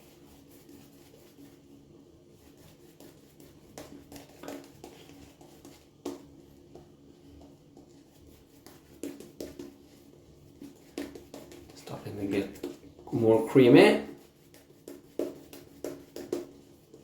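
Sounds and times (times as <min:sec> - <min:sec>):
shaving brush brushing lather: 0:00.0 - 0:17.0.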